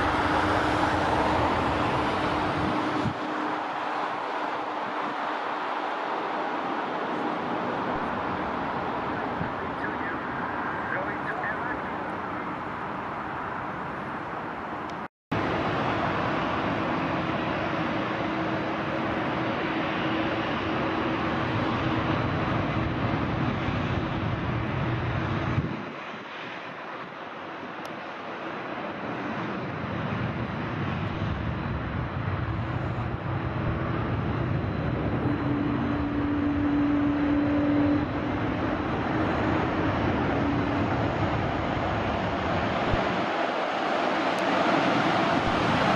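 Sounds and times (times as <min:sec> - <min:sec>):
jet engine roar: 0:00.0 - 0:45.9.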